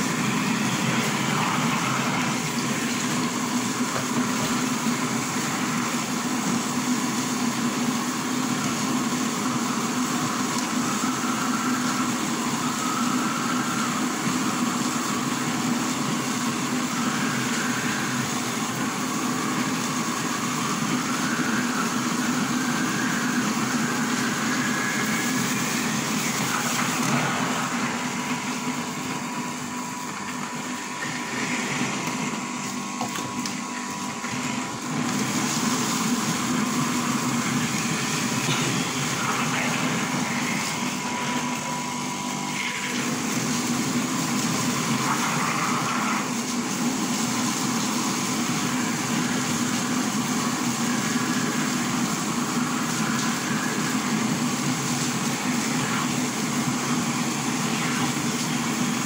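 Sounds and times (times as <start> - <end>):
electric grinding machine running: 0.0 - 59.0.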